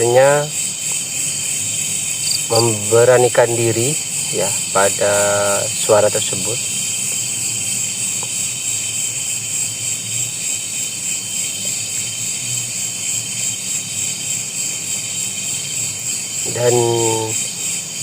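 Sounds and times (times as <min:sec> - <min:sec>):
crickets and insects chirping: 0:00.0 - 0:18.0.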